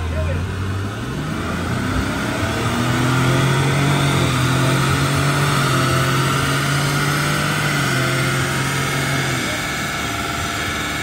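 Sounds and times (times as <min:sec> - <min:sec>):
car engine running on dyno: 0:00.0 - 0:11.0.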